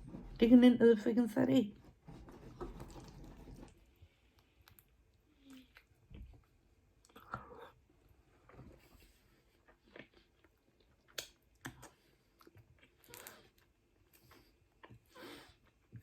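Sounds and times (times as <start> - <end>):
person chewing food: 2.5 - 16.0.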